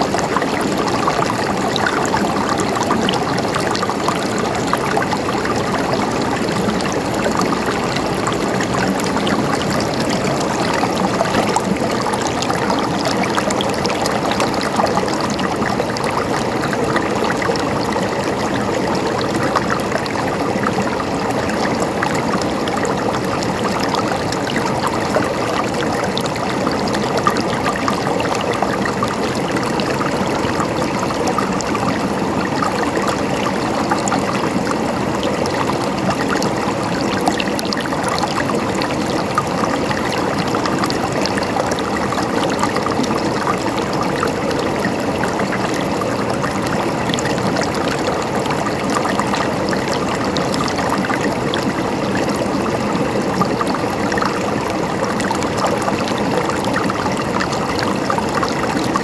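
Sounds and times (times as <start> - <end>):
water gurgling and trickling: 0.0 - 59.0.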